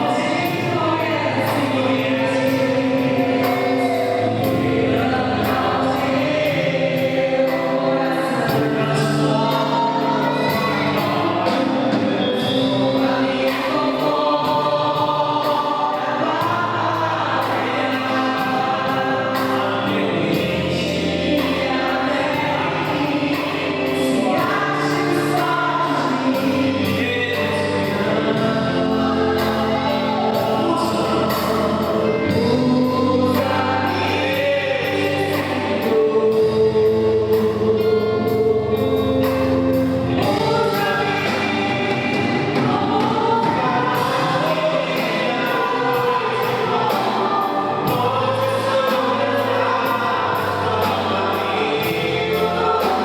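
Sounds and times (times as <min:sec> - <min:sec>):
gospel worship song: 0:00.0 - 0:53.0.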